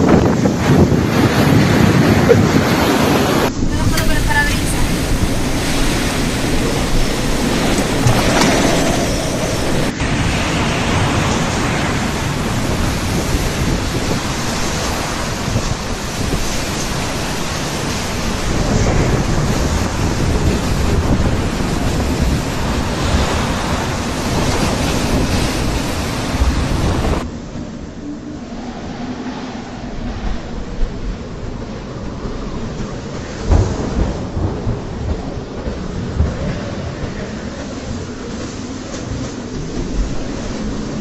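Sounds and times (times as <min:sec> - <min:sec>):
driving rain: 0:00.0 - 0:27.3, 0:29.6 - 0:41.0
strong wind: 0:00.0 - 0:41.0
wind buffeting microphone: 0:00.0 - 0:41.0.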